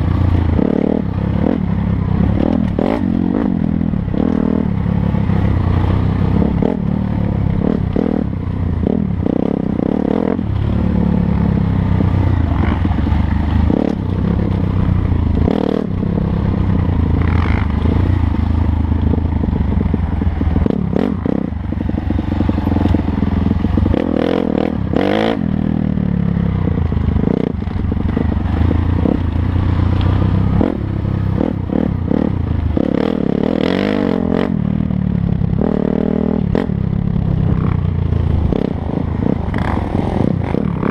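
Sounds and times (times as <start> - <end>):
dirt bike engine revving: 0.0 - 26.4, 27.2 - 40.9.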